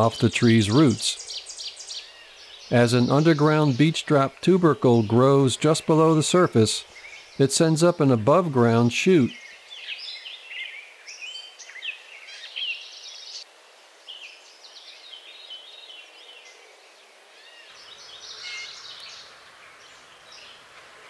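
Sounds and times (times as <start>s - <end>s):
songbirds chirping and singing: 0.0s - 13.5s, 14.1s - 21.0s.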